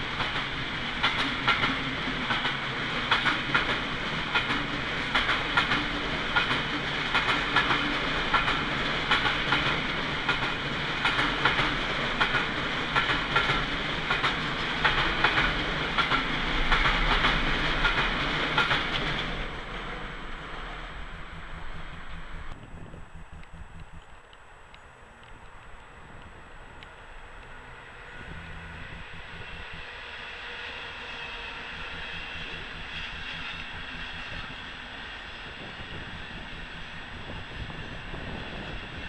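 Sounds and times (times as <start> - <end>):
train wheels clicking over rail joints: 0.0 - 22.6, 26.8 - 39.0.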